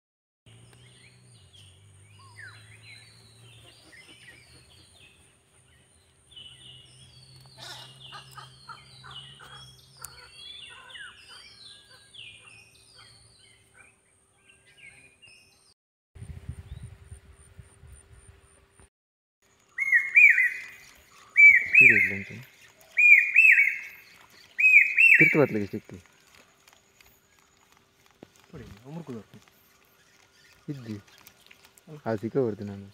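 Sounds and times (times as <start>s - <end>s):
birds chirping and calling: 0.5s - 15.7s, 19.6s - 32.9s.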